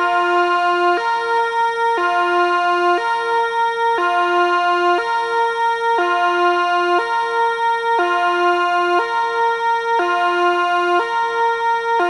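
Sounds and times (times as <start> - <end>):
two-tone electronic siren: 0.0 - 12.0.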